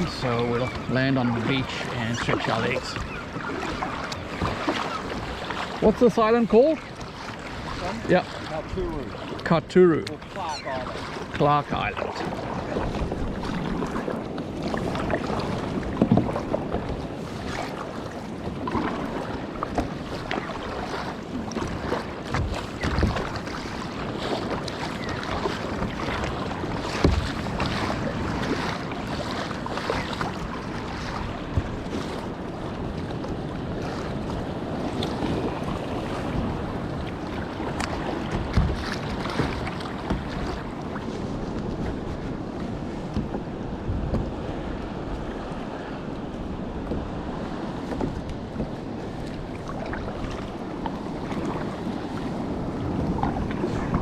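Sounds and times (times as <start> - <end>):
paddle blades splashing: 0.0 - 54.0
water sloshing around hull: 0.0 - 54.0
wind on microphone: 10.3 - 54.0.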